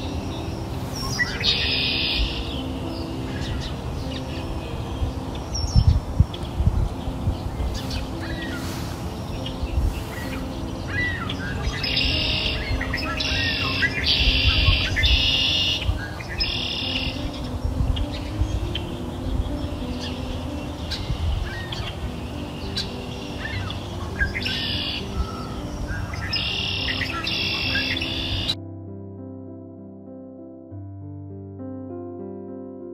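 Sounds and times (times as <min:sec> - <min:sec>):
birds chirping and trilling: 0:00.0 - 0:28.6
soft background music tones: 0:00.0 - 0:32.9.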